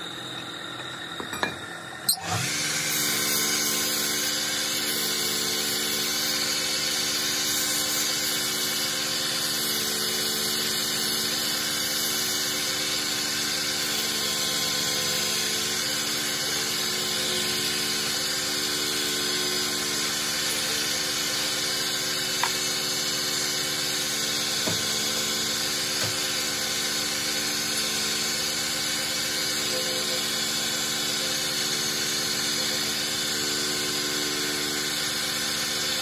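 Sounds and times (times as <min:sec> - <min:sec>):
wood lathe humming: 0:00.0 - 0:36.0.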